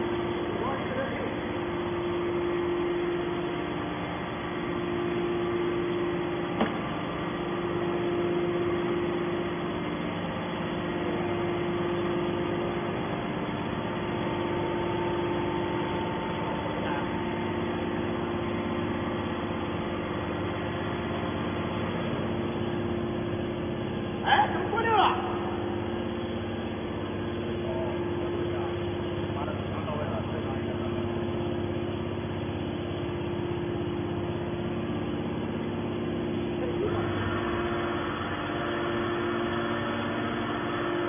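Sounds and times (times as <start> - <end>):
baler motor and pump hum: 0.0 - 41.0.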